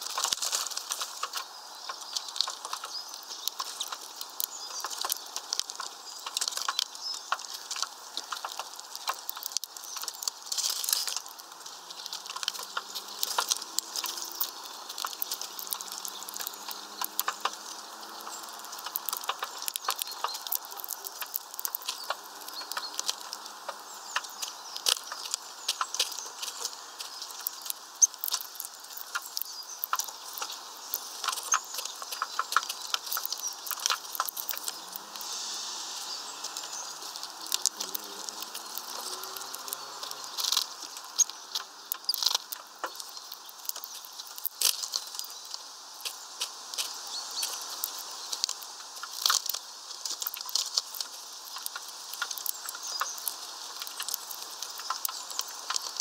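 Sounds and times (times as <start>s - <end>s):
beaks cracking seed husks: 0.0s - 56.0s.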